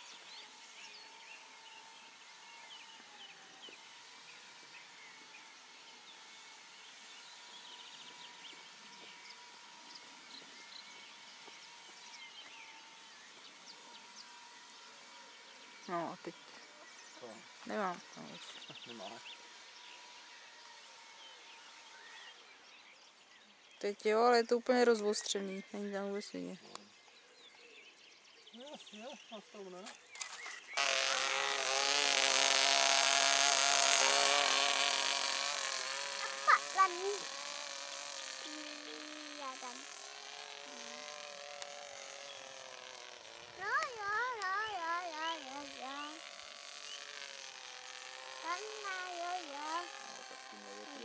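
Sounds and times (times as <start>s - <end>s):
birds chirping: 0.0s - 51.0s
distant model airplane engine whine: 0.0s - 51.0s.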